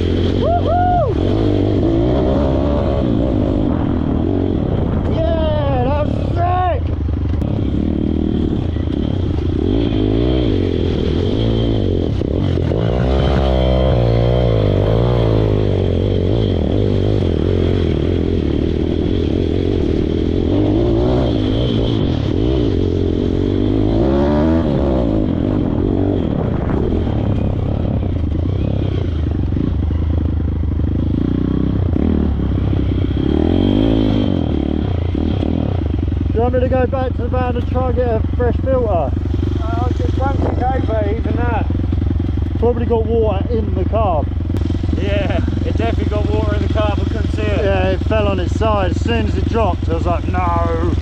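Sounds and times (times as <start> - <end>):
small motorbike engine revving: 7.2 - 51.0.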